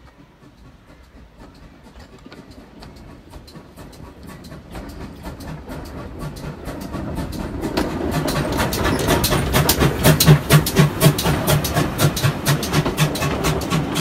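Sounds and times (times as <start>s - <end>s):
train passing on adjacent track: 0.0s - 14.0s
train wheels clattering over rail joints: 0.0s - 14.0s.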